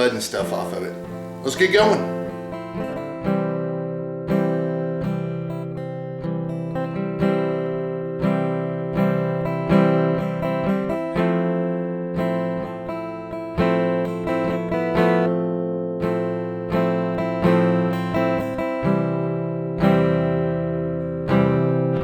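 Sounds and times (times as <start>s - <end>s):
strummed acoustic guitar chords: 0.0s - 22.0s.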